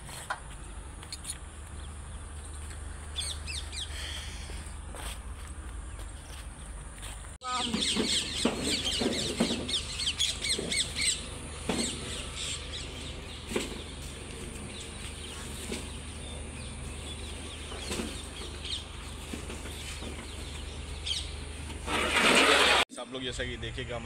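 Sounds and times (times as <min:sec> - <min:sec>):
small birds chirping: 0:00.6 - 0:04.8, 0:05.8 - 0:21.8.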